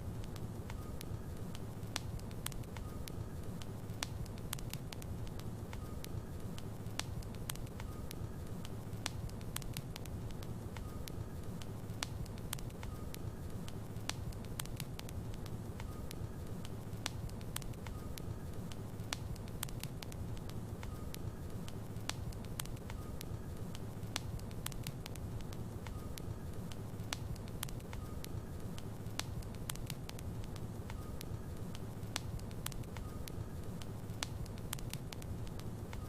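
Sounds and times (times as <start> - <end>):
fire crackling and popping: 0.0 - 36.0
low rumble of flames: 0.0 - 36.0.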